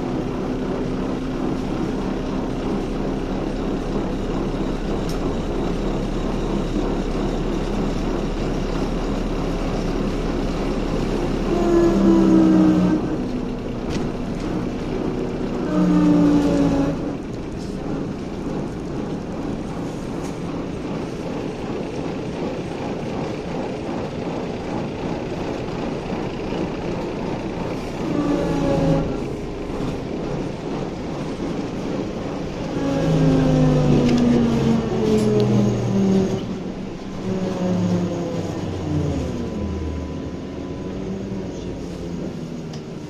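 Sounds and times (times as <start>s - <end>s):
trolleybus wheels rumbling: 0.0s - 43.0s.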